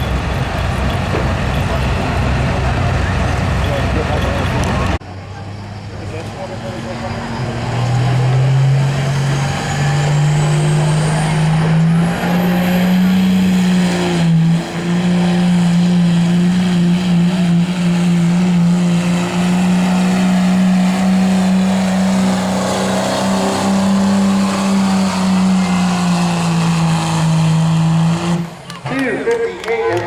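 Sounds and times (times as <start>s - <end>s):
diesel truck engine at full throttle: 0.0s - 30.0s.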